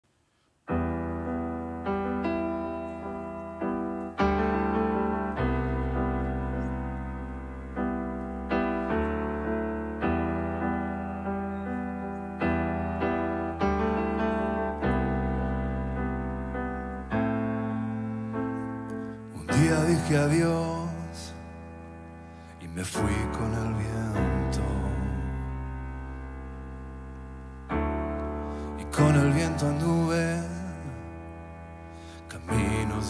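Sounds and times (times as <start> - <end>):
solo piano chords: 0.7 - 33.0.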